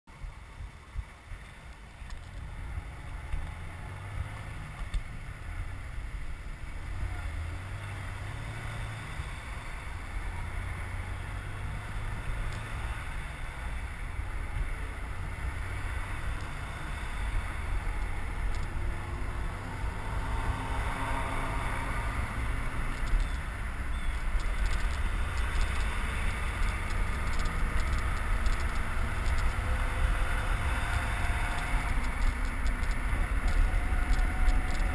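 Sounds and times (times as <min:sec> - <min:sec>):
car engines and tyres: 0:00.1 - 0:34.9
wind noise on microphone: 0:00.1 - 0:34.9.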